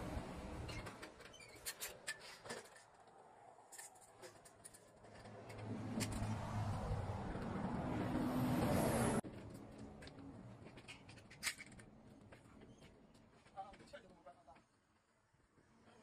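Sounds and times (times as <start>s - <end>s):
road vehicle engine and tyres: 0.0s - 16.0s.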